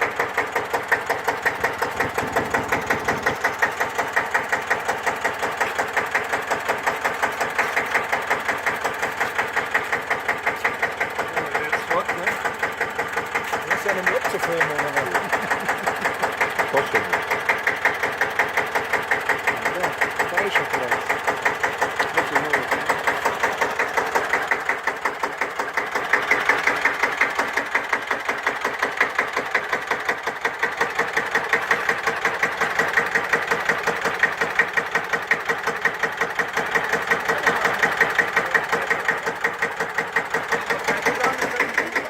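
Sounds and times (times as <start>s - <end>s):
diesel tractor engine idling: 0.0s - 42.0s.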